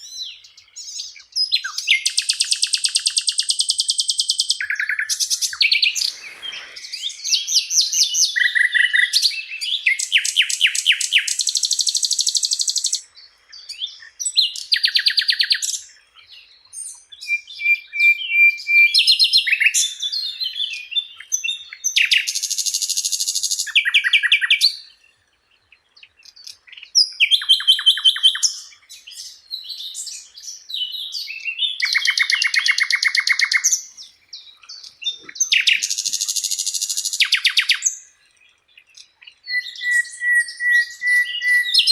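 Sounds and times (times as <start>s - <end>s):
bird singing trills: 0.0s - 41.9s.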